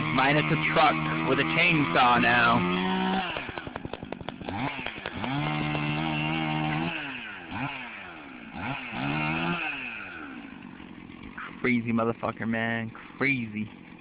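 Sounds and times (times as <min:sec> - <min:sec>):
chainsaw engine idling and revving: 0:00.0 - 0:14.0.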